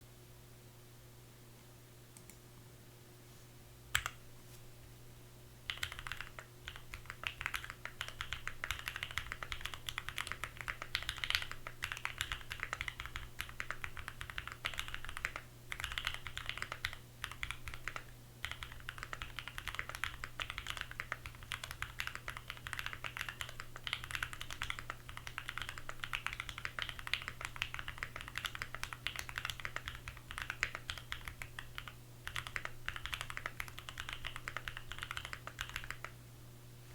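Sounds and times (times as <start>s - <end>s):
typing on mechanical keyboard: 5.7s - 36.2s.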